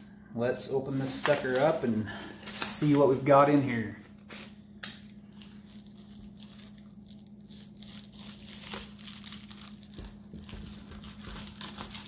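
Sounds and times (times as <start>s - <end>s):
low hum: 0.0s - 9.9s
knife cutting plastic wrap: 0.9s - 4.6s, 5.3s - 12.0s
plastic crinkling and tearing: 0.9s - 12.0s.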